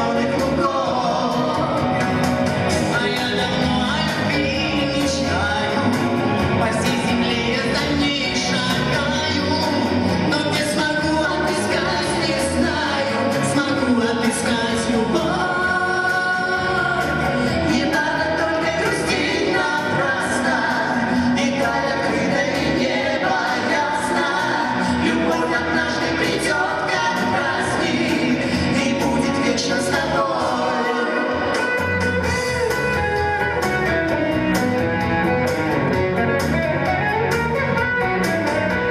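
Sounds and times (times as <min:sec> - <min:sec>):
band playing with singing: 0:00.0 - 0:38.9.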